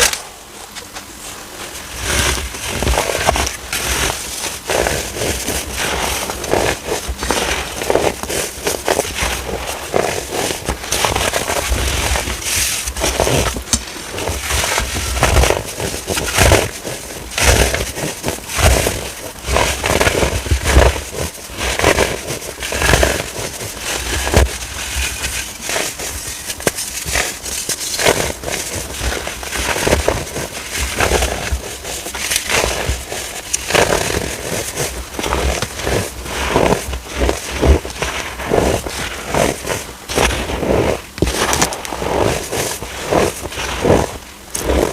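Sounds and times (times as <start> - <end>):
baking soda crunching: 1.6 - 44.9.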